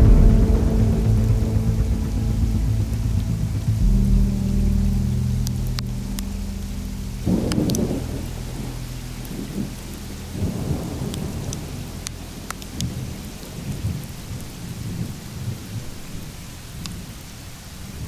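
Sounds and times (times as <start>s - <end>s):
rain hissing: 0.0s - 18.0s
sharp crackles: 0.0s - 18.0s
thunder rumbling: 0.0s - 18.0s.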